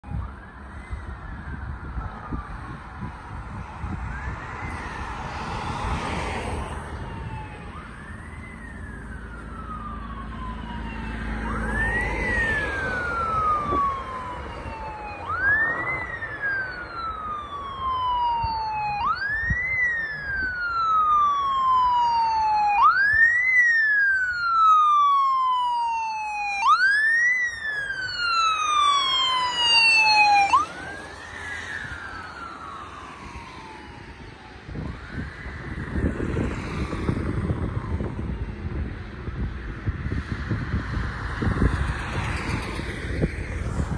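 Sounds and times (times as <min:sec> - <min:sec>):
ambulance siren wailing: 0:00.0 - 0:43.9.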